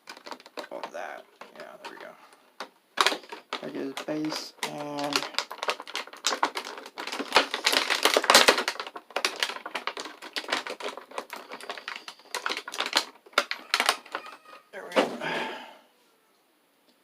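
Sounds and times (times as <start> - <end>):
small plastic parts clicking: 0.0 - 14.6
plastic packaging crackling: 0.0 - 14.8.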